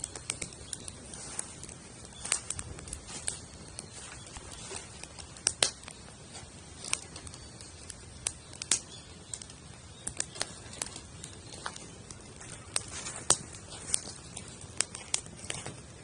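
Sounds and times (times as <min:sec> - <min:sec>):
campfire crackling and popping: 0:00.0 - 0:16.0
low fire hiss: 0:00.0 - 0:16.0.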